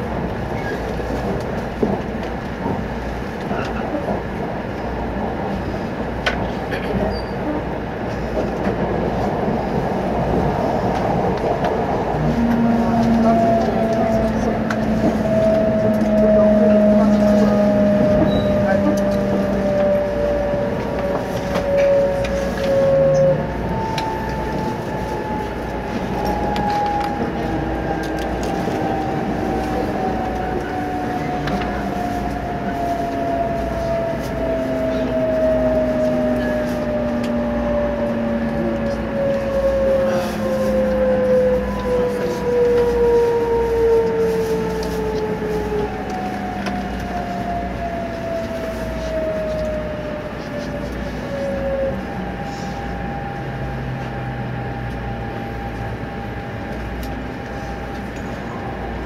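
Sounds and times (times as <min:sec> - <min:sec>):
train running gear rumble: 0:00.0 - 0:59.0.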